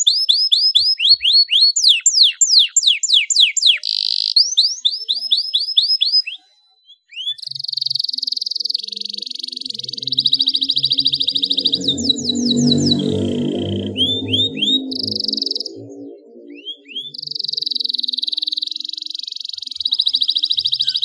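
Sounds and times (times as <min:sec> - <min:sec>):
canary singing: 0:00.0 - 0:21.0
fast dense bird trill: 0:00.0 - 0:21.0.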